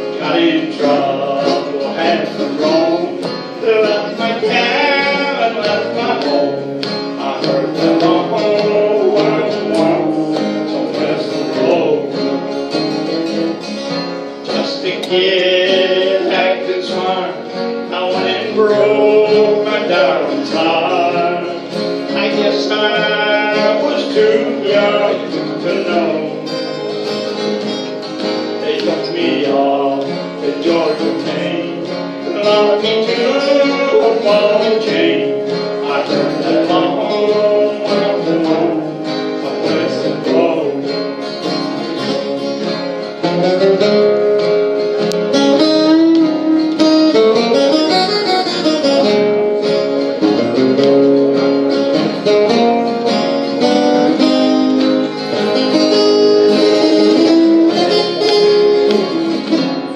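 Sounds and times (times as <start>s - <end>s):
picked guitar lead melody: 0.0s - 59.9s
strummed acoustic guitar: 0.0s - 59.9s.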